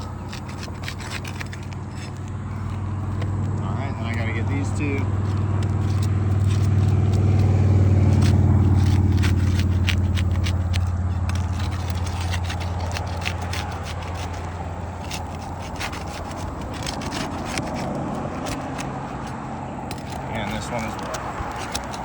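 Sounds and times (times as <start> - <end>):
low vehicle hum: 0.0 - 22.0
tool scraping and clicking nails: 0.0 - 22.0.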